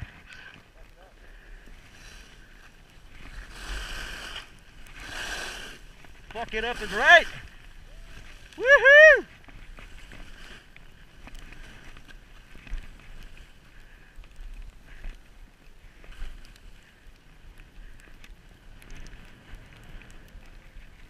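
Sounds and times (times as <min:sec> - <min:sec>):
skis scraping over snow: 0:00.0 - 0:21.0.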